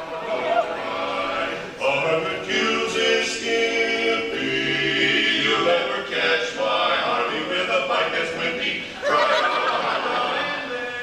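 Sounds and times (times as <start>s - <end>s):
male quartet singing a cappella: 0.2s - 11.0s.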